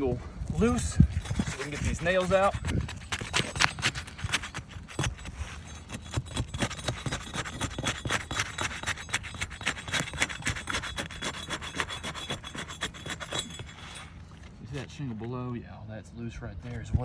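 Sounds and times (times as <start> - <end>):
roof shingle scraping: 0.5 - 15.4.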